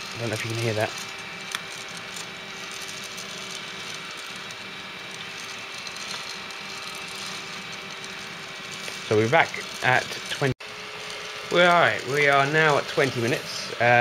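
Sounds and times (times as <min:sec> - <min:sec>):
coffee beans popping: 0:00.0 - 0:14.0
coffee roaster motor whir: 0:00.0 - 0:14.0.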